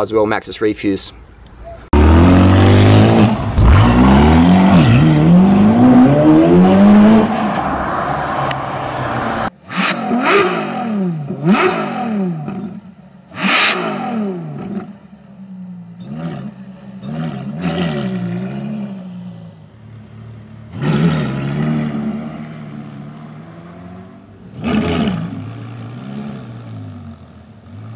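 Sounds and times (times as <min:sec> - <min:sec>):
car engine revving: 0:01.9 - 0:27.9.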